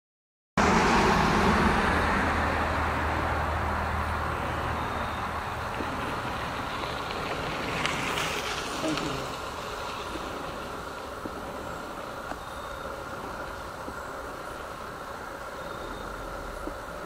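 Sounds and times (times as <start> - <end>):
low engine hum: 0.6 - 17.0
road traffic rumble: 0.6 - 17.0.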